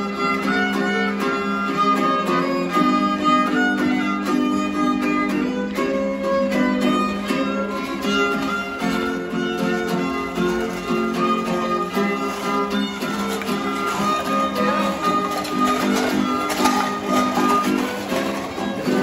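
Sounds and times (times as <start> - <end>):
guitar accompaniment: 0.0 - 19.0
violin melody: 0.0 - 19.0.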